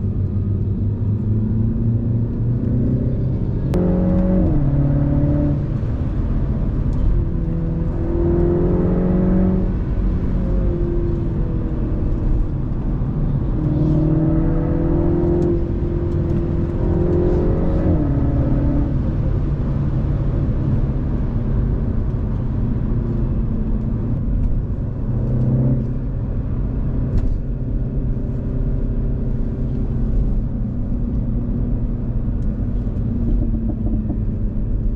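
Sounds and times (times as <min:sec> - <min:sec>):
car engine accelerating through gears: 0:00.0 - 0:34.9
road noise: 0:00.0 - 0:34.9.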